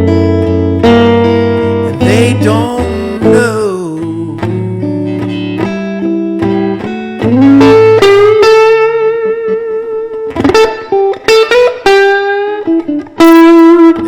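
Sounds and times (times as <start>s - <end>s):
electric guitar blues lead: 0.0s - 14.0s.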